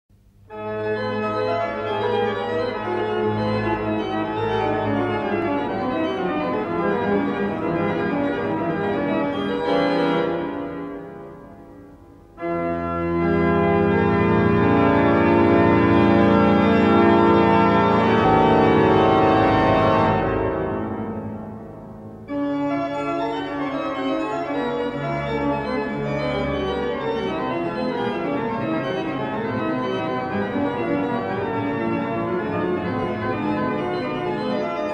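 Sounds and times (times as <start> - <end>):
organ chords: 0.1 - 34.9.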